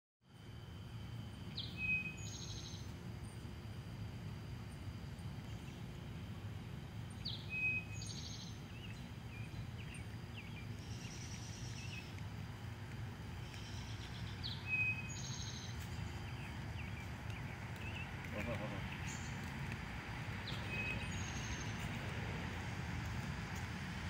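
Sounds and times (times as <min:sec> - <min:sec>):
low background rumble: 0:00.4 - 0:24.0
songbird singing: 0:00.4 - 0:24.0.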